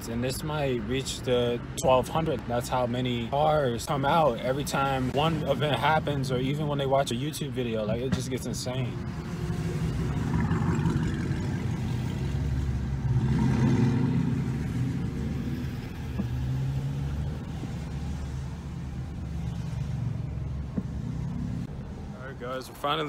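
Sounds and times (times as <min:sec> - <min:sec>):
car engine low rumble: 0:00.0 - 0:23.0.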